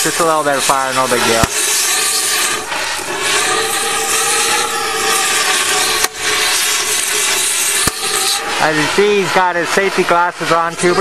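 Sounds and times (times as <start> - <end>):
cutting torch hissing: 0.0 - 11.0.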